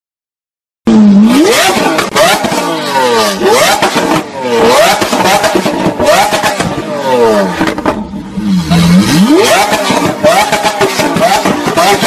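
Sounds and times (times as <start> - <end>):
car engine revving: 0.9 - 12.0.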